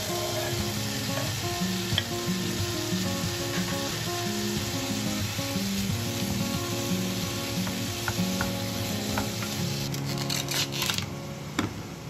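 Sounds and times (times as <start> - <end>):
vegetables sizzling in frying pan: 0.0 - 11.1.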